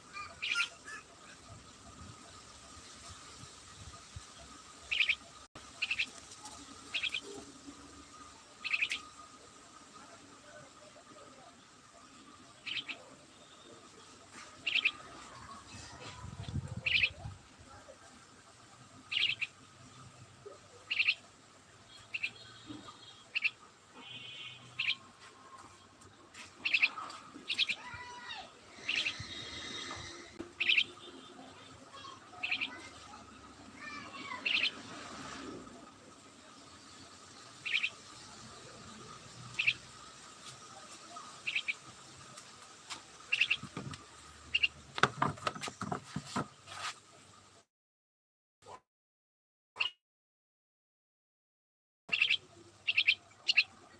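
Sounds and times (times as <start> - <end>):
small birds chirping: 0.0 - 47.2, 52.1 - 53.9.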